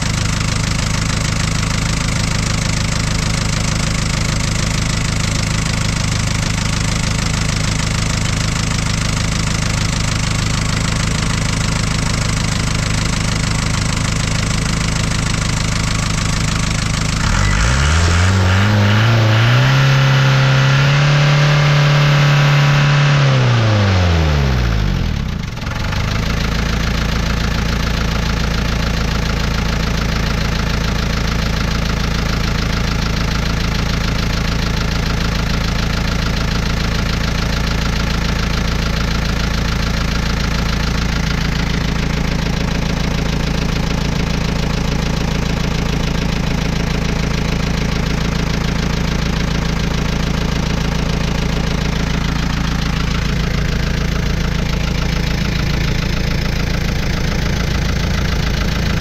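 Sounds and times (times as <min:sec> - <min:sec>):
diesel engine revving and idling: 0:00.0 - 0:59.0.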